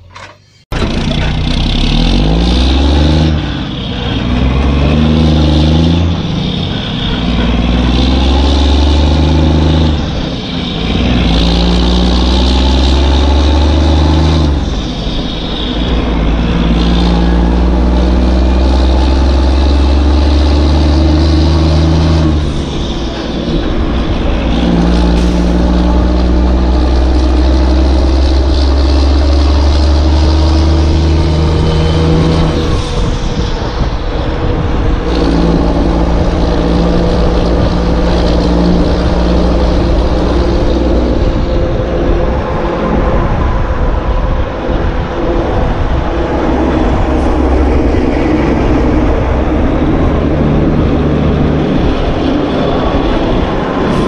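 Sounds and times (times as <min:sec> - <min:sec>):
heavy truck engine under load: 0:00.0 - 0:54.0.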